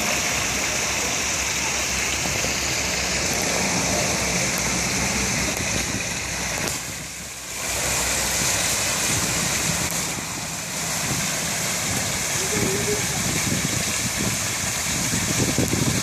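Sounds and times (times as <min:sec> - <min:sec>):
low engine hum: 0:00.0 - 0:16.0
waterfall rushing: 0:00.0 - 0:16.0.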